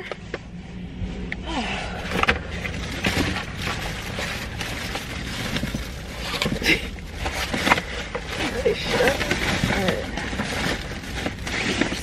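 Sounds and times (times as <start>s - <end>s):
low hum inside a car: 0.0s - 12.0s
paper bag and jacket rustling: 2.1s - 12.0s.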